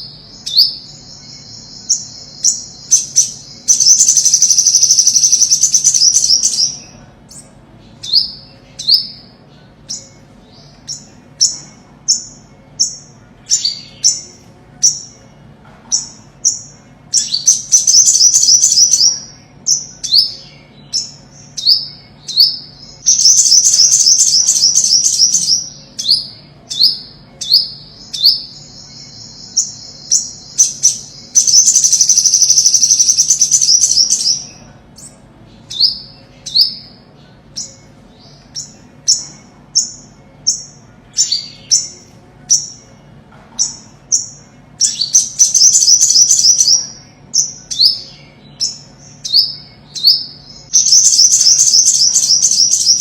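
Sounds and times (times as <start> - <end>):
bird fast trills: 0.0 - 7.4, 16.0 - 42.8, 43.6 - 53.0.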